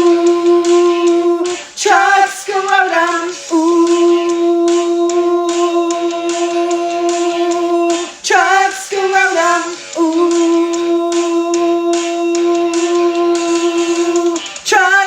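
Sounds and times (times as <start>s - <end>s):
backing music: 0.0s - 15.0s
person singing wordlessly: 0.0s - 15.0s.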